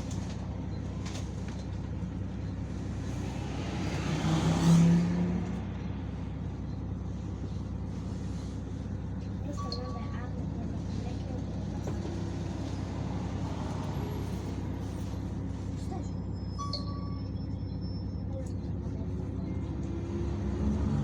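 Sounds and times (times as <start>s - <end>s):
bus engine droning: 0.0s - 21.0s
traffic noise: 0.0s - 21.0s.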